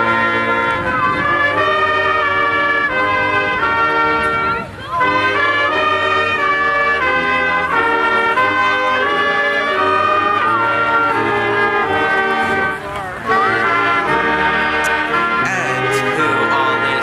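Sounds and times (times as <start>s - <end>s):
brass and saxophone ensemble chords: 0.0s - 17.0s.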